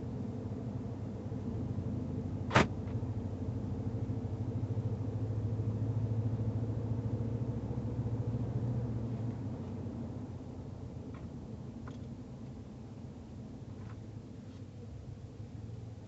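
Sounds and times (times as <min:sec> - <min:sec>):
truck engine and road hum: 0:00.0 - 0:16.0.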